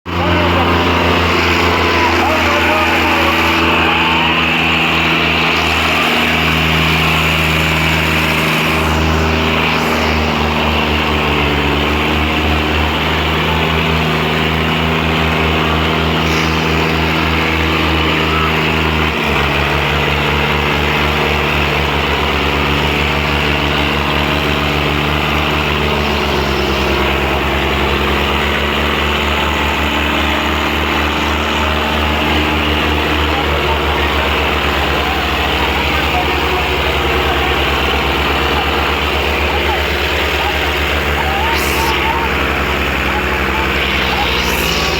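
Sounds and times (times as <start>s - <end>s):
diesel tractor engines under load: 0.0s - 44.9s.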